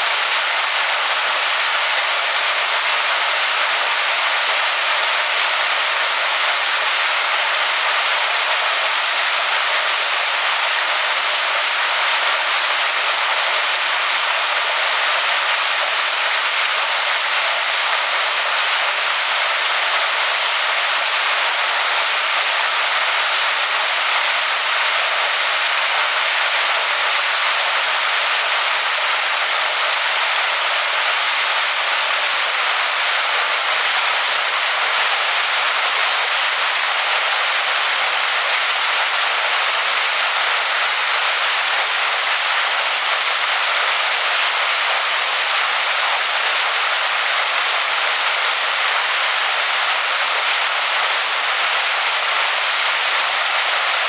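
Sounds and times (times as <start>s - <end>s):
waterfall splashing onto rocks: 0.0s - 54.0s.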